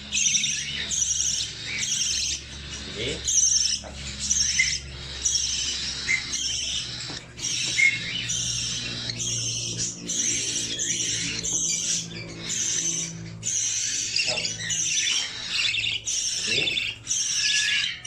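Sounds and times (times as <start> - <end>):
budgie chirping raspy: 0.0 - 18.0.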